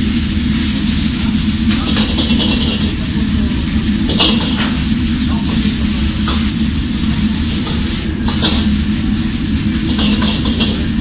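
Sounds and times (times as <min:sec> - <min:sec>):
food sizzling in a wok: 0:00.0 - 0:11.0
steady low rumble: 0:00.0 - 0:11.0.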